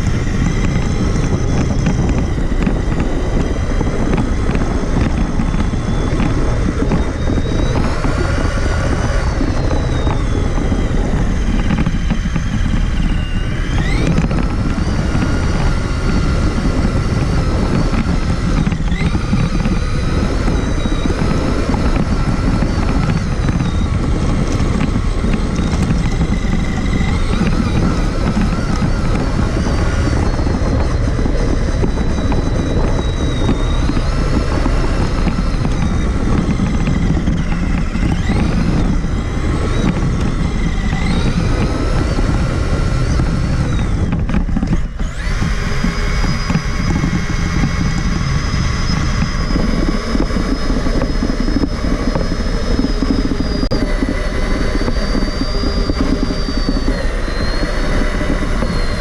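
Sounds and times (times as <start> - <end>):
toy truck electric motor whine: 0.0 - 59.0.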